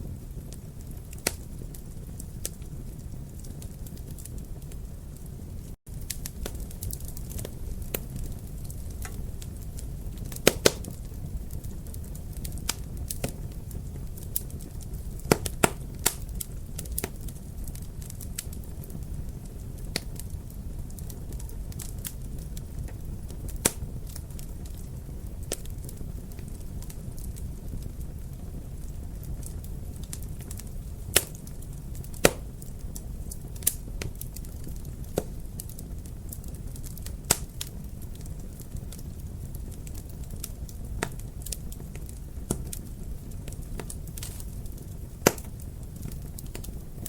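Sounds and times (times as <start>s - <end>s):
sharp pops and snaps of fire: 0.0s - 47.0s
wood fire crackling: 0.0s - 47.0s.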